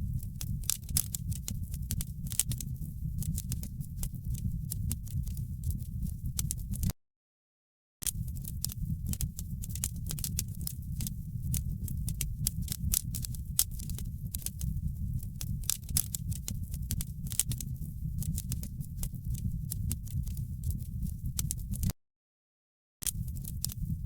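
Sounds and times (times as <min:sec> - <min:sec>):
fire crackling and popping: 0:00.0 - 0:06.9, 0:08.0 - 0:21.9, 0:23.1 - 0:24.0
low rumble of flame: 0:00.0 - 0:06.9, 0:08.1 - 0:21.9, 0:23.1 - 0:24.0.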